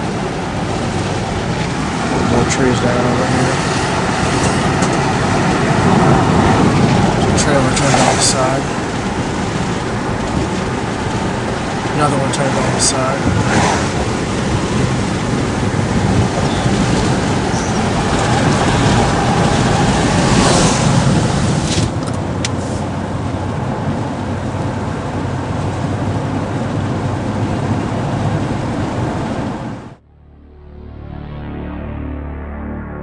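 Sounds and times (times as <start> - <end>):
car road and wind noise: 0.0 - 30.0.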